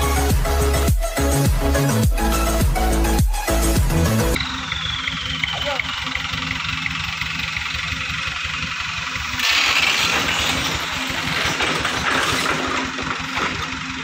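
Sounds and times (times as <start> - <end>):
diesel truck engine labouring: 0.0 - 14.0.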